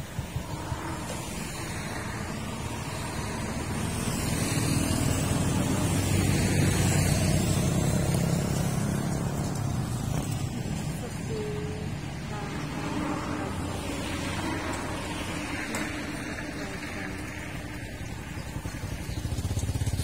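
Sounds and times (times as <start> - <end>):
motor vehicle running: 0.0 - 20.0
road noise: 0.0 - 20.0.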